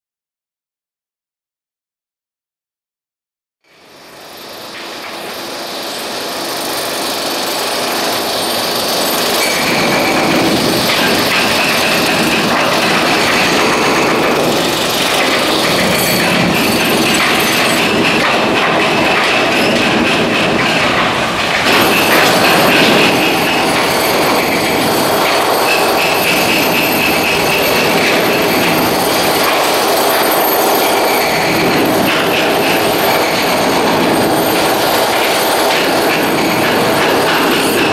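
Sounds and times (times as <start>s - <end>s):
high-pitched metallic squealing: 3.7s - 37.9s
demolition machinery clatter and rumble: 4.3s - 37.9s.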